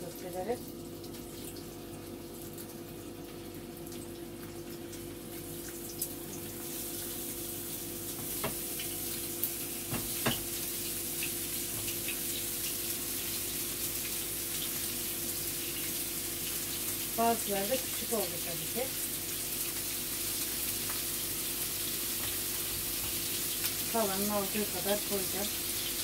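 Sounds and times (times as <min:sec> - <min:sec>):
meatballs sizzling in oil: 0:00.0 - 0:26.0.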